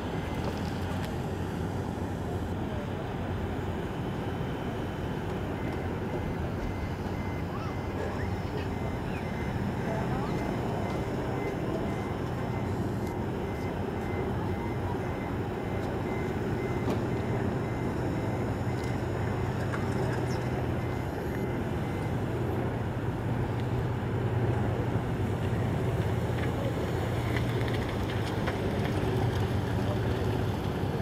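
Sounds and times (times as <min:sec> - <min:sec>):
aircraft tug engine droning: 0:00.0 - 0:31.0.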